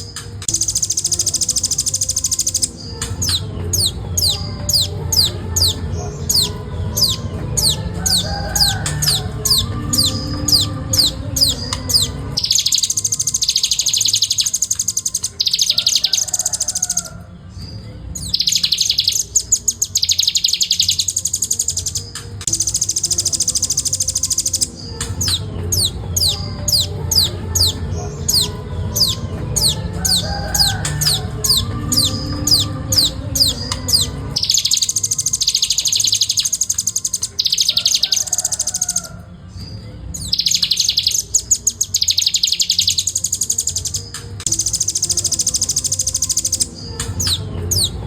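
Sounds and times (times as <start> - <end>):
bird singing rapid high trills: 0.0 - 48.0.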